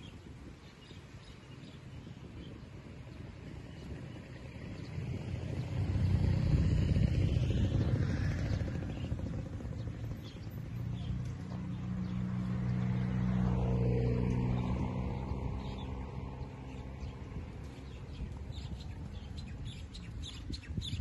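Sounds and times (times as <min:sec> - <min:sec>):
vehicle engine rumbling: 0:02.8 - 0:21.0.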